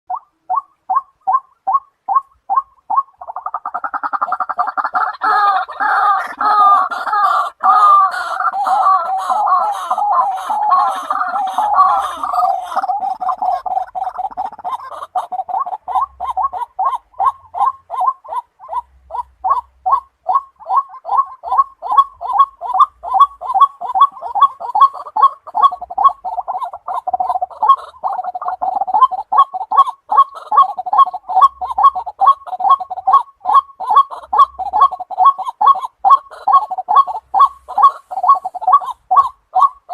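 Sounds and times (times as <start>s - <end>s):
waterhen calling: 0.1s - 39.9s.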